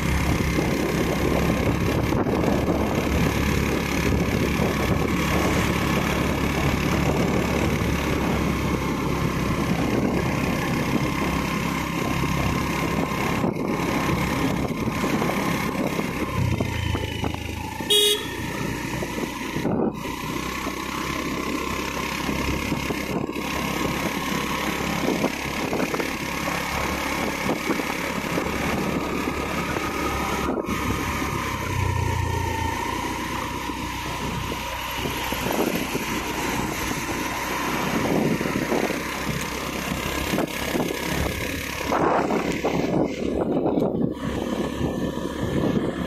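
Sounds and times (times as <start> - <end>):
motorcycle engine running: 0.0 - 46.0
road noise: 0.0 - 46.0.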